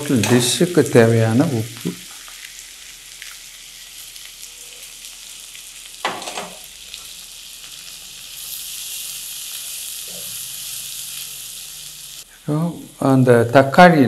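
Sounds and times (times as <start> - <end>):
onions sizzling in butter: 0.0 - 13.8.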